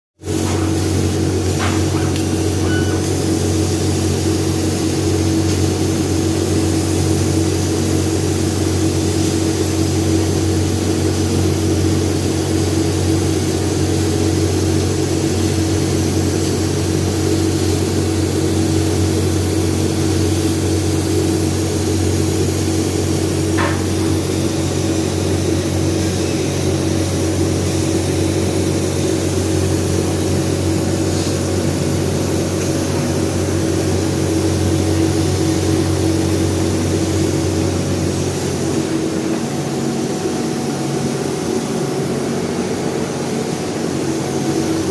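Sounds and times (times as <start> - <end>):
laser cutter humming: 0.2 - 44.9.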